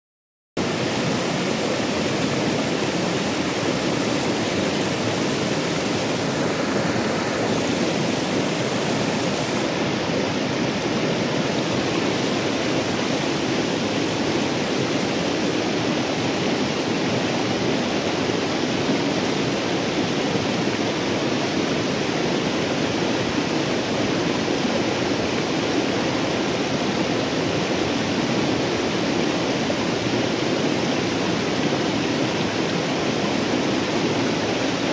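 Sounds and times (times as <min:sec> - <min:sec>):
white-water rapids rushing: 0:00.6 - 0:34.9.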